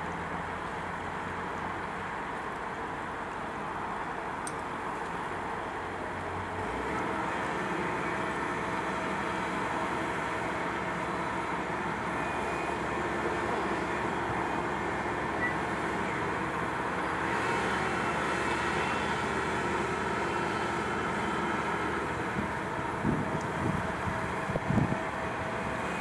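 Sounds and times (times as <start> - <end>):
excavator diesel engine: 0.0 - 26.0.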